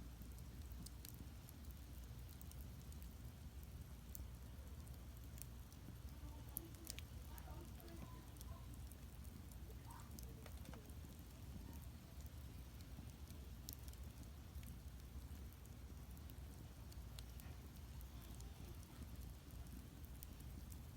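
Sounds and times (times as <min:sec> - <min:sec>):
fire rumbling: 0:00.0 - 0:20.9
wood fire crackling and popping: 0:00.0 - 0:20.9.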